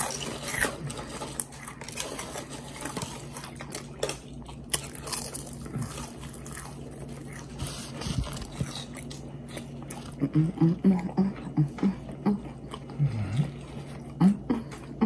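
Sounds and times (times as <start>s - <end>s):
chewing with crunches: 0.0s - 15.0s
low steady hum: 0.0s - 15.0s.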